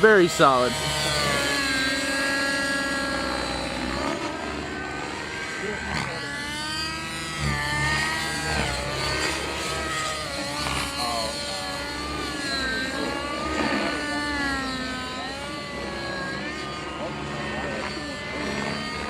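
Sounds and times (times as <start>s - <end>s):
model helicopter rotor whine: 0.0s - 19.0s.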